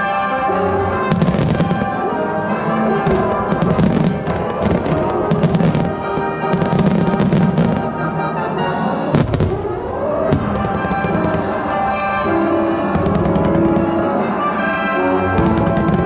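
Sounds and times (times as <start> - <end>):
fireworks bursting and crackling: 0.0 - 16.0
music playing: 0.0 - 16.0.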